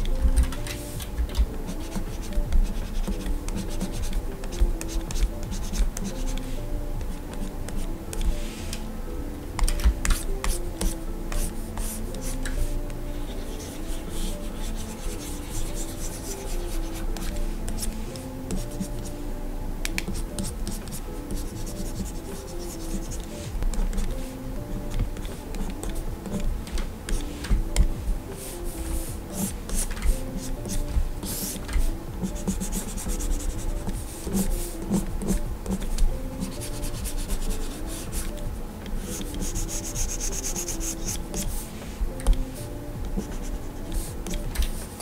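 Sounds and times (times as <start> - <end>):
stylus scratching and tapping screen: 0.0 - 8.8, 9.6 - 19.2, 19.9 - 41.6
soft background music: 0.0 - 45.0.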